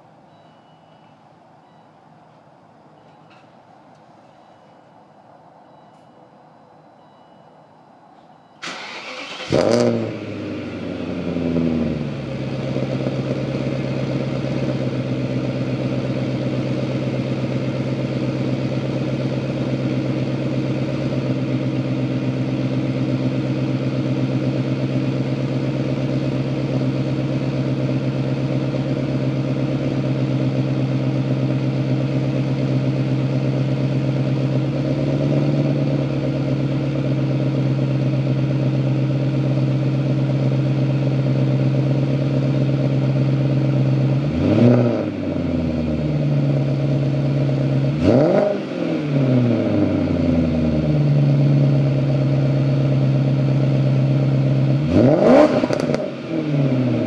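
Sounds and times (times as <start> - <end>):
car engine idling and revving: 8.6 - 57.0.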